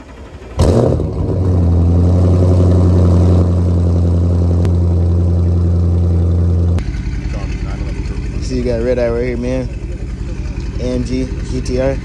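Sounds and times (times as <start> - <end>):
car engine idling fast: 0.0 - 12.0.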